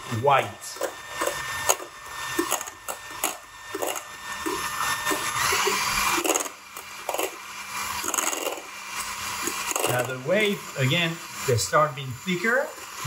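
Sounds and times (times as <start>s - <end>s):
electric hand mixer whipping: 0.0s - 13.0s.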